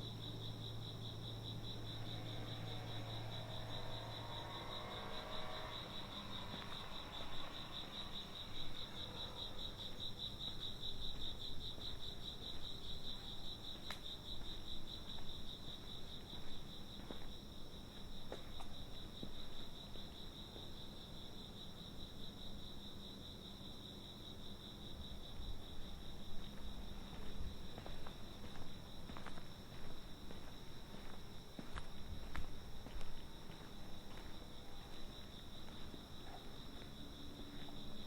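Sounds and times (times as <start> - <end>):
crickets chirping: 0.0 - 38.0.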